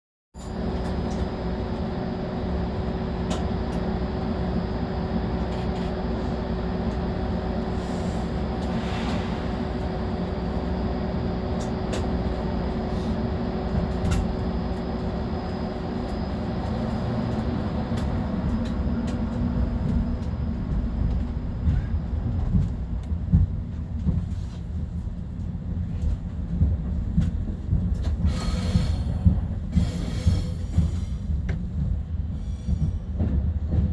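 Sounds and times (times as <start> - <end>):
train rumble and hum: 0.4 - 33.9.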